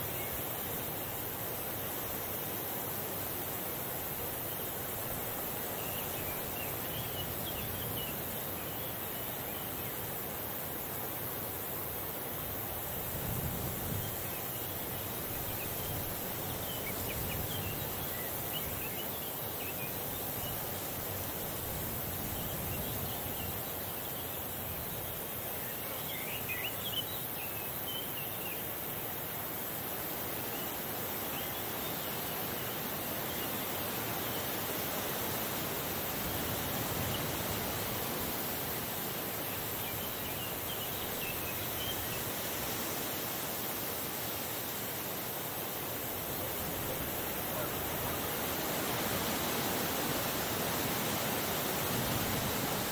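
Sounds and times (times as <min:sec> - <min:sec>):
breeze hissing: 0:00.0 - 0:52.9.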